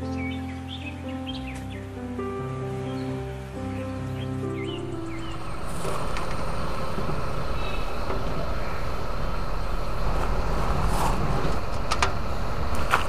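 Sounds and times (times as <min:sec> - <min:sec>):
low rumbling background noise: 0:01.8 - 0:13.0.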